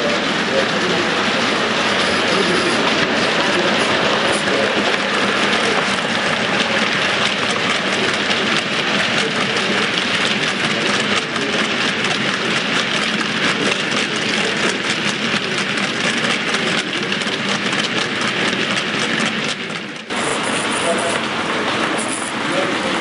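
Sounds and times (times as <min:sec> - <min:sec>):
model train wheels rumbling: 0:00.0 - 0:23.0.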